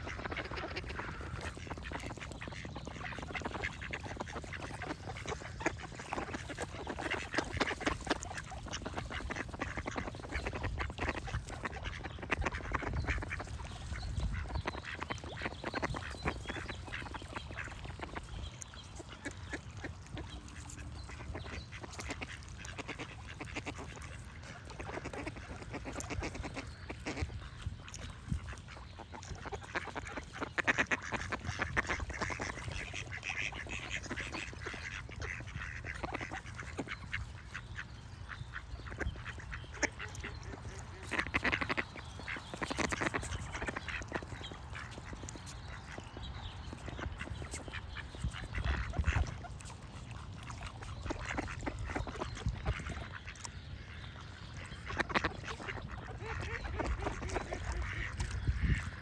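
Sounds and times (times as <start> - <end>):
ducks quacking: 0.0 - 59.0
faint birdsong: 0.0 - 59.0.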